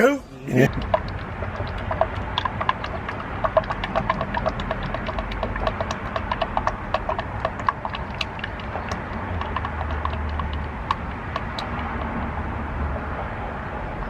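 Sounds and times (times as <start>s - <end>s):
oil glugging from bottle: 0.6s - 12.2s.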